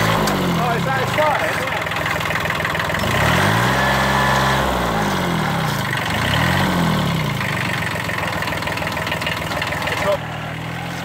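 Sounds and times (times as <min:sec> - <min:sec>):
tractor engine under heavy load: 0:00.0 - 0:11.0.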